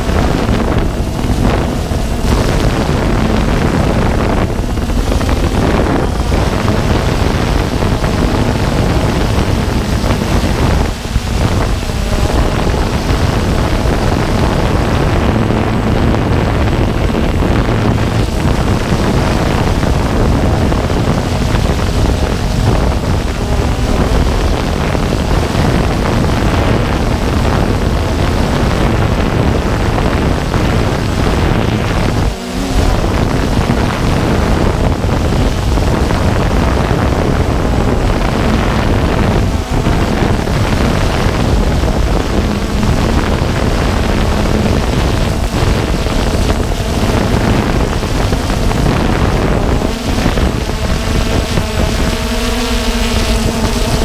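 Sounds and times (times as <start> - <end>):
drone motors and propellers: 0.0 - 54.0
wind buffeting microphone: 0.0 - 54.0.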